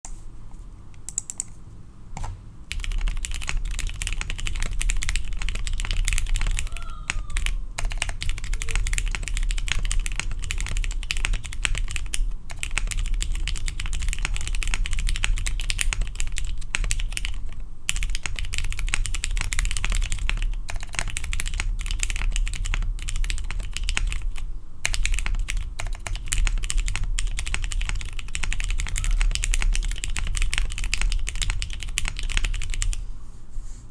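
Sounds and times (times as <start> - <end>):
mechanical keyboard typing: 1.0 - 1.6, 2.2 - 33.0.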